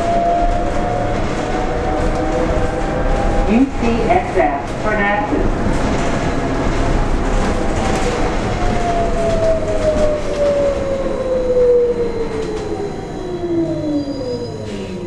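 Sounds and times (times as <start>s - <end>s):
bus ride rumble: 0.0s - 15.0s.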